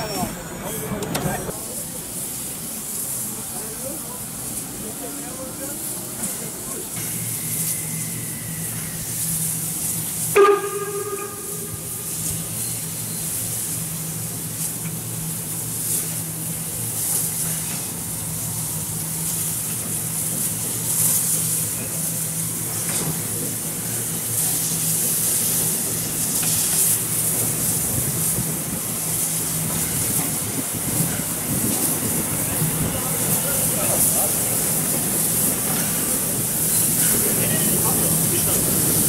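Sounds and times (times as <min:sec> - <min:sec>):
steam locomotive hissing: 0:00.0 - 0:39.0.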